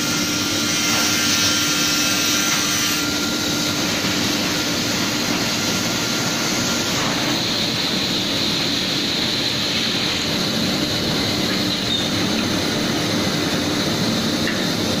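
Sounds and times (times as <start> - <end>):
saw blades whining: 0.0 - 15.0.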